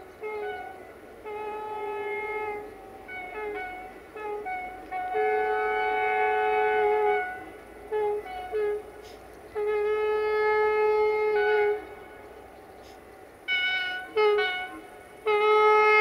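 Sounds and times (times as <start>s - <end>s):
locomotive air horn: 0.0s - 16.0s.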